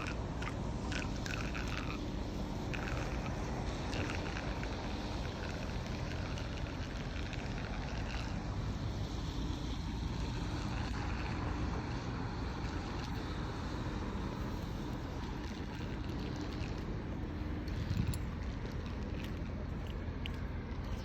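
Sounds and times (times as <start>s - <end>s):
machine droning: 0.0s - 21.0s.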